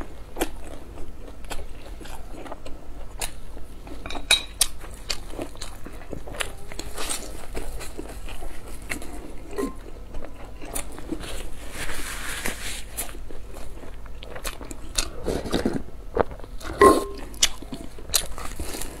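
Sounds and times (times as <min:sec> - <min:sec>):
wet chewing: 0:00.0 - 0:11.7, 0:12.4 - 0:19.0.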